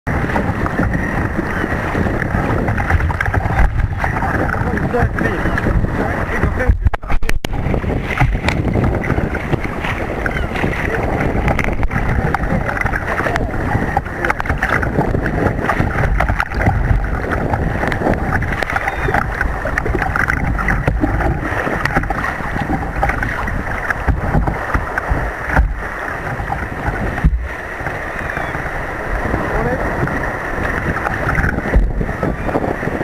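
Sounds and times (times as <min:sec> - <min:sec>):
surf and splashing water: 0:00.0 - 0:33.0
wind buffeting microphone: 0:00.1 - 0:33.0.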